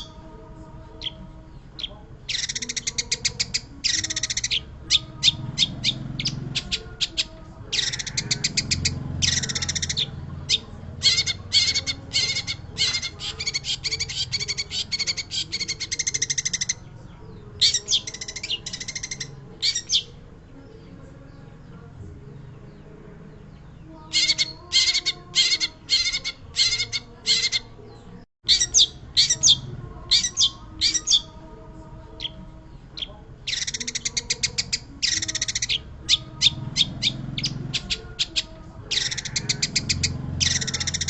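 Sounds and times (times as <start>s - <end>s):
bird harsh chattering song: 0.0s - 0.2s, 0.9s - 20.8s, 22.7s - 31.4s, 32.1s - 41.0s.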